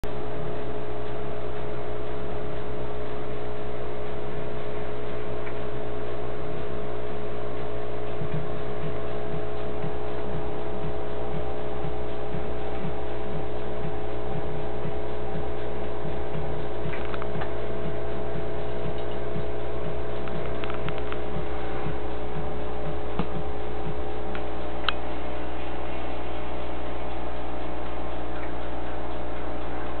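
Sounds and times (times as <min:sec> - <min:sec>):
electrical hum: 0:00.0 - 0:30.0
faint irregular ticking: 0:00.0 - 0:30.0.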